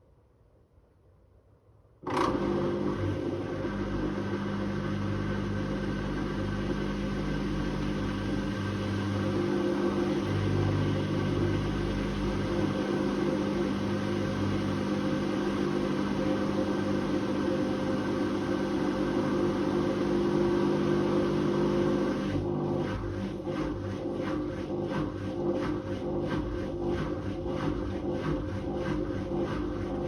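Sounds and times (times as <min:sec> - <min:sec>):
washing machine running: 0:02.0 - 0:30.0.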